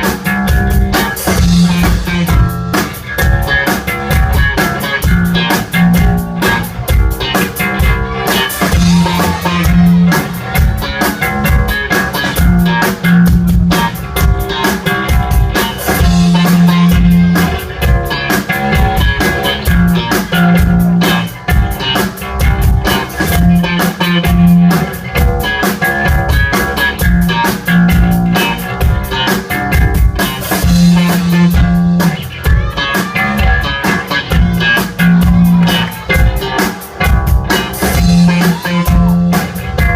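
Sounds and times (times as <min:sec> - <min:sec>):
drum kit beat: 0:00.0 - 0:39.9
guitar: 0:00.0 - 0:39.9
low bass riff: 0:00.0 - 0:39.9
rock music: 0:00.0 - 0:39.9.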